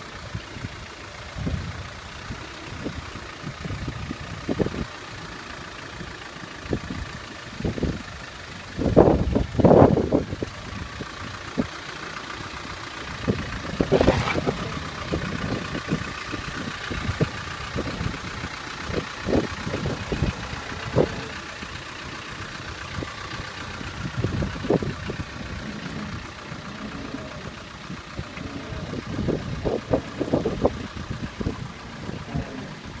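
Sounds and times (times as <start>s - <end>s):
diesel engine running at low revs: 0.0s - 33.0s.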